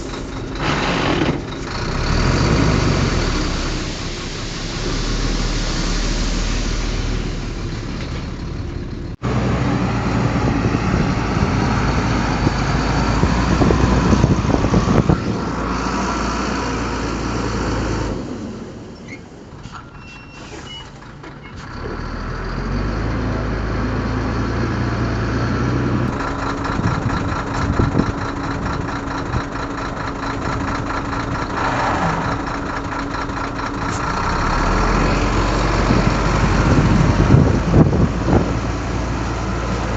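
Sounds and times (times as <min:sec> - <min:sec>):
heavy diesel engines under load: 0:00.0 - 0:39.9.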